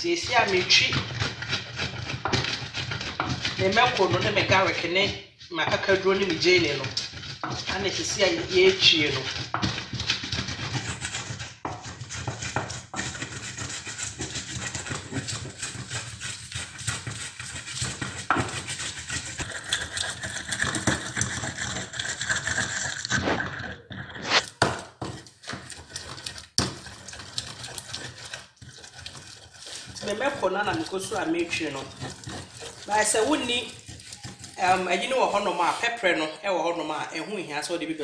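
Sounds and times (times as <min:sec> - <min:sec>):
hand squishing wet mash: 0:00.0 - 0:36.3.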